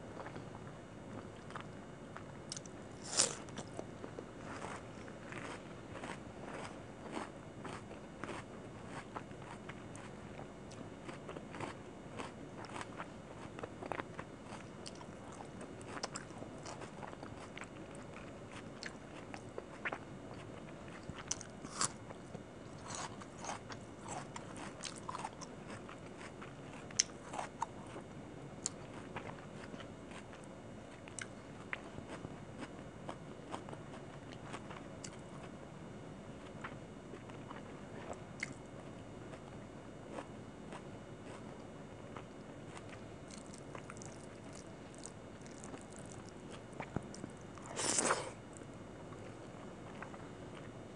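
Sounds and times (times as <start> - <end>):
chewing and crunching food: 0.0 - 35.7, 36.3 - 50.9.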